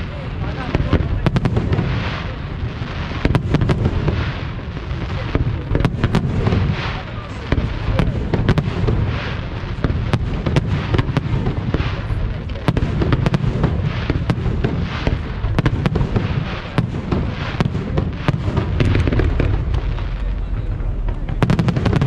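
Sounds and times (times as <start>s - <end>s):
continuous low rumble: 0.0s - 22.0s
fireworks bangs and crackling: 0.0s - 22.0s.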